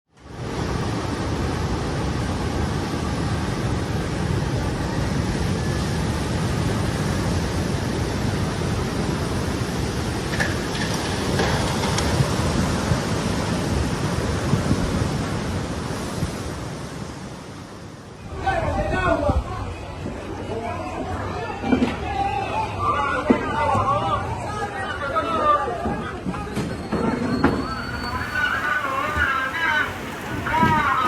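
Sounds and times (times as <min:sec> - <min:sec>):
surging sea water: 0:00.1 - 0:21.6, 0:27.4 - 0:31.0
wind: 0:00.1 - 0:31.0.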